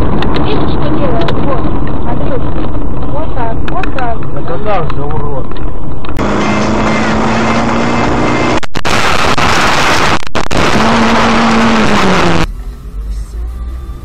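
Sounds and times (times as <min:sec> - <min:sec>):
car engine: 0:00.0 - 0:14.0
road and tyre noise: 0:00.0 - 0:14.0.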